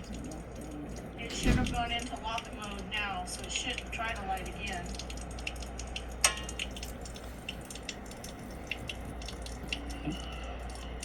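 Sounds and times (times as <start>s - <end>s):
low steady hum: 0.0s - 11.0s
water dripping: 0.0s - 11.0s
water running from tap: 0.0s - 11.0s.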